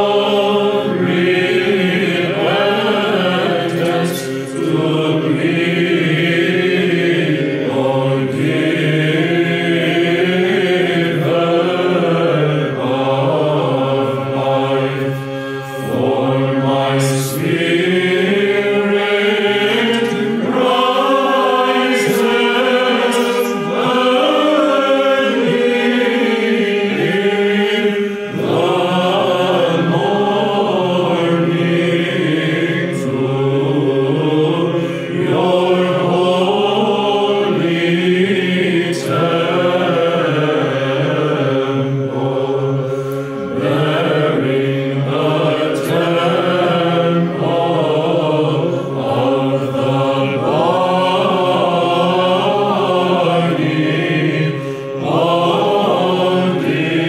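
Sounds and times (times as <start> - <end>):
held vocal drone: 0.0 - 57.0
mixed choir chanting in unison: 0.0 - 57.0.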